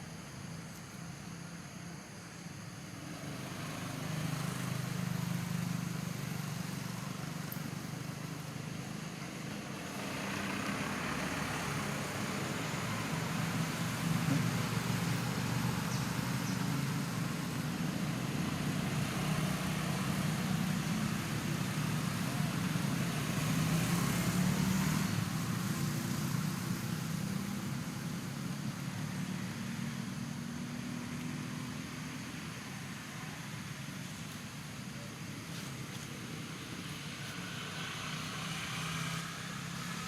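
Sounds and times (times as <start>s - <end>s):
vehicle engine running: 2.9s - 40.0s.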